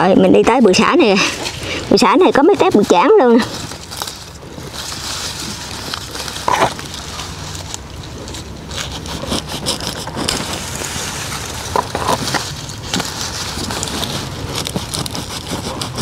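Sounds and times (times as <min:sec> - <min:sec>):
leaves rustling and crackling: 0:00.7 - 0:16.0
stalks cracking: 0:02.7 - 0:16.0.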